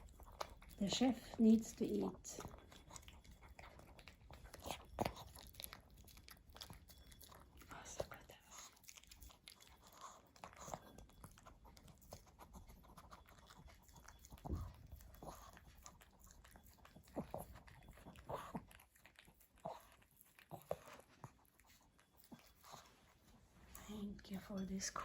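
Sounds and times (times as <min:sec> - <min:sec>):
dog crunching and chewing: 0:00.0 - 0:25.0.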